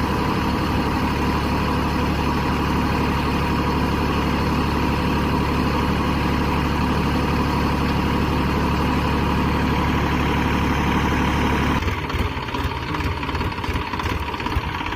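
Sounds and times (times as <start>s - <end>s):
tractor engine idling: 0.0s - 14.9s.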